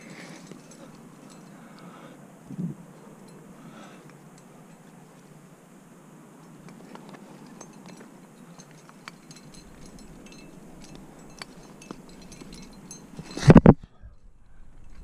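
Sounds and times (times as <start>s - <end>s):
metal climbing gear clinking: 0.0s - 5.6s, 6.4s - 15.0s
faint steady hiss: 0.0s - 15.0s.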